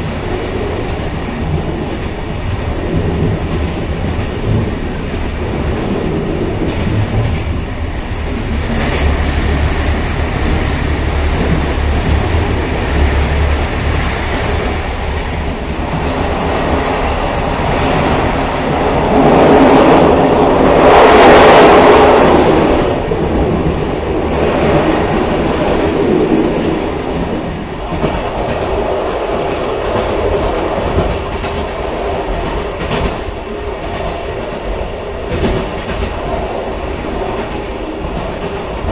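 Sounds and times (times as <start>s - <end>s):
railcar rumbling: 0.0s - 38.9s
wheels clickety-clack: 0.0s - 38.9s.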